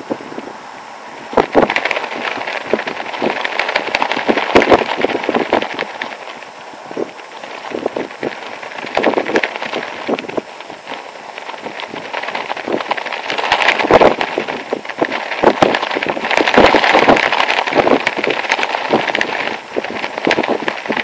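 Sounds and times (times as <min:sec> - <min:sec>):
nylon clothing flapping in wind: 0:00.0 - 0:21.0.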